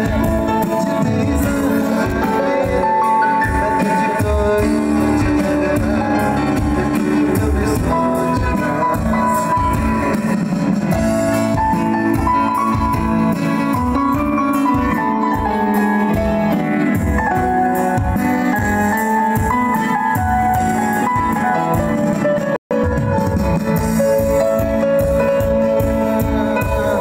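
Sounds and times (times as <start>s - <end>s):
keyboard: 0.0s - 27.0s
steady drum beat: 0.0s - 27.0s
strummed acoustic-electric guitar: 0.0s - 27.0s.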